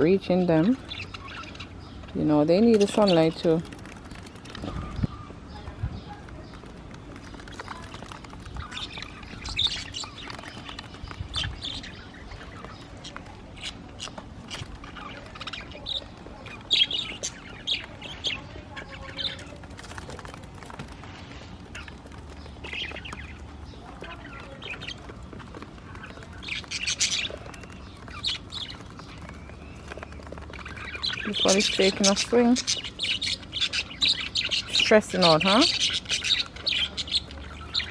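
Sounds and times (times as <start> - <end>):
budgerigars chirping and squawking: 0.0 - 37.9.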